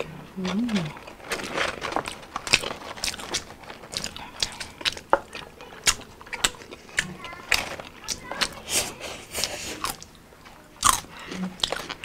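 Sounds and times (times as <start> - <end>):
people chewing crunchy food: 0.0 - 12.0.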